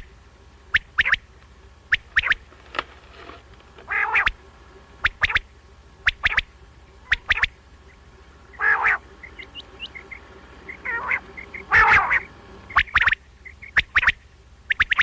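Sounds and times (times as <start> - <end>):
quail calling sharp notes: 0.7 - 2.5, 3.8 - 15.0.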